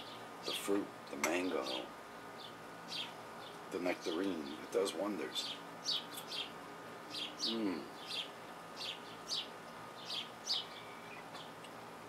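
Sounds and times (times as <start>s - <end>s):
bird chirping: 0.0s - 4.7s, 5.3s - 11.7s.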